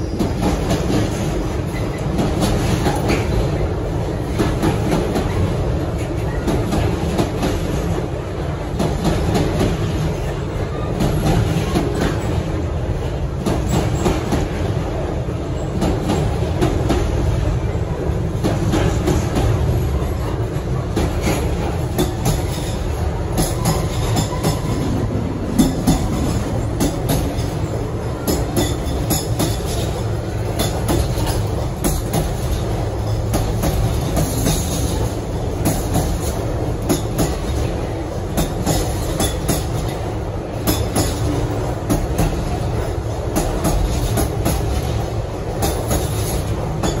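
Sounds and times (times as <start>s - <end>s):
freight train rumbling past: 0.0s - 47.0s
train wheels clattering on rails: 0.0s - 47.0s.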